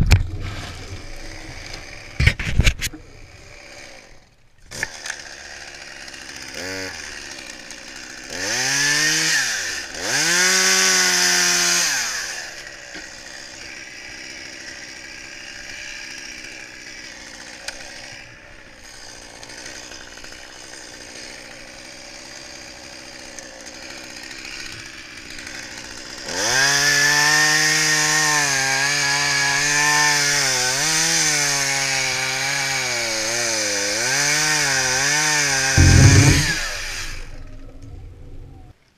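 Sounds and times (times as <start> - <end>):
chainsaw revving and idling: 0.4 - 2.4, 3.0 - 37.4.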